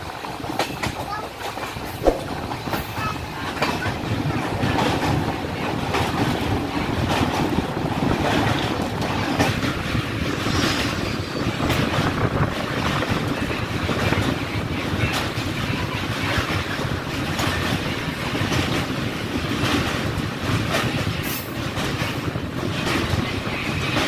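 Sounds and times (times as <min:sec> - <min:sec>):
rushing wind: 0:00.0 - 0:24.0
train wheels rumbling on rails: 0:00.0 - 0:24.0.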